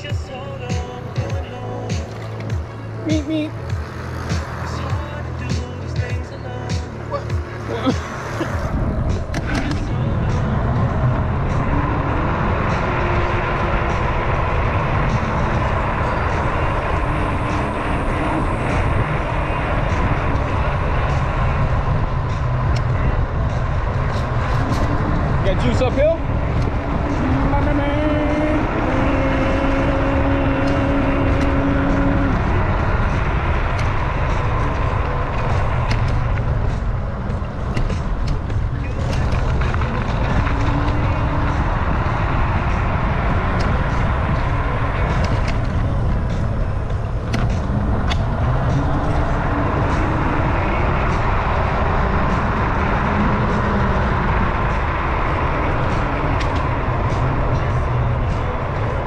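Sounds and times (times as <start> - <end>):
wind on microphone: 7.9 - 59.0.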